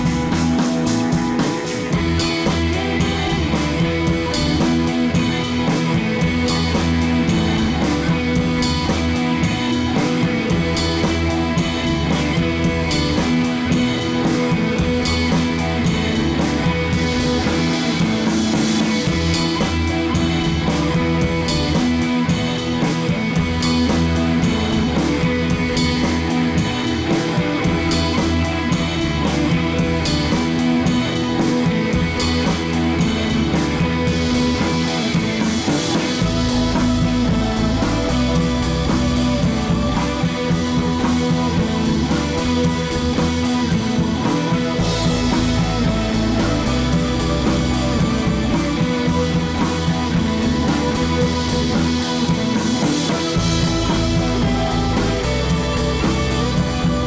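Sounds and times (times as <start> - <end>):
rock music with drum beat: 0.0 - 57.0.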